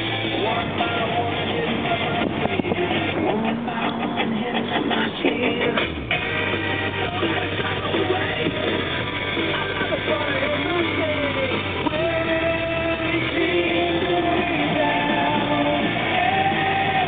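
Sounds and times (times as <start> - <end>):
rock song on car radio: 0.0 - 17.0.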